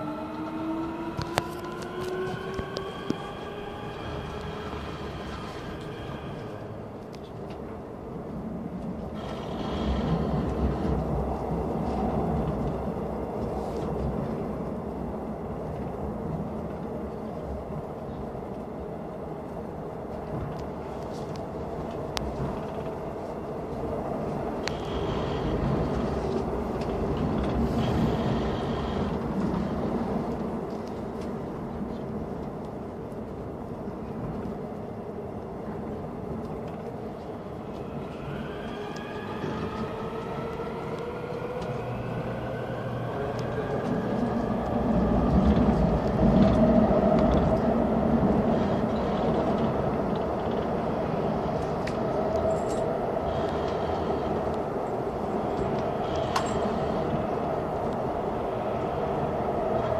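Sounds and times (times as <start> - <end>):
train rumbling through tunnel: 0.0 - 59.9.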